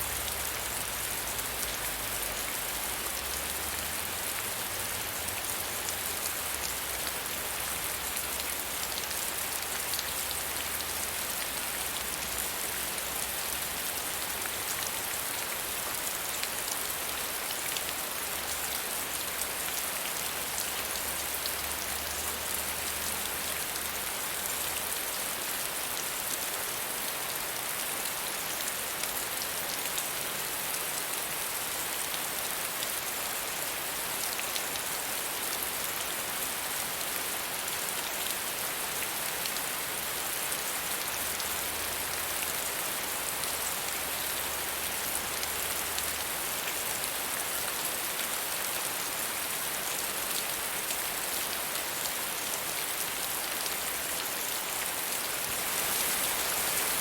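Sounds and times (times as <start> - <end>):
gentle rain pattering: 0.0 - 57.0.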